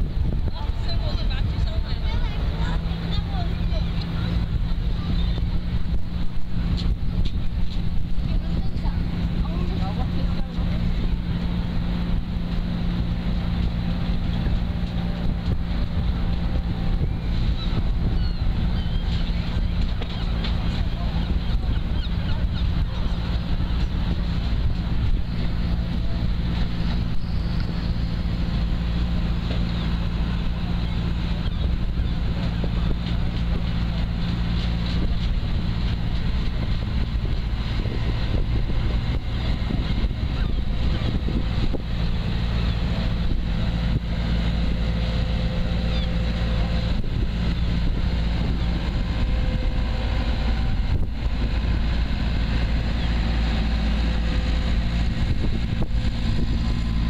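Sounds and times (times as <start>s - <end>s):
engine running steadily: 0.0s - 57.0s
wind noise on microphone: 0.0s - 57.0s.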